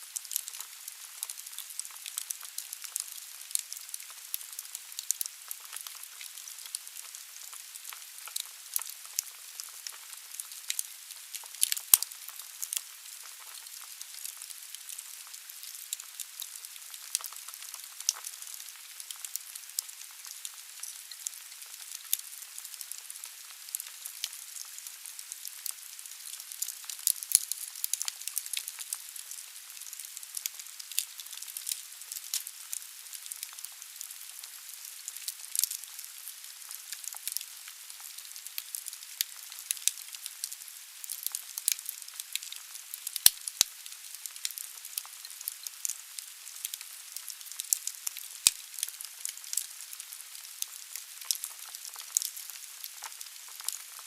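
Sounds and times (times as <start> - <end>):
logs crackling and popping: 0.1 - 54.0.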